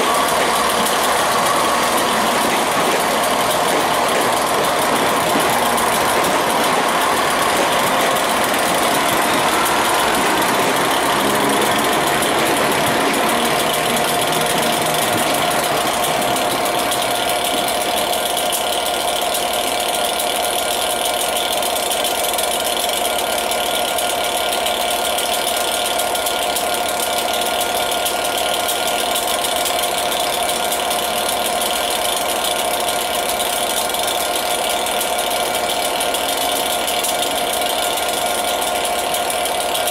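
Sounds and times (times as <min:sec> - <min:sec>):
diesel locomotive idling: 0:00.0 - 0:39.9
train engine pulling out: 0:00.0 - 0:39.9.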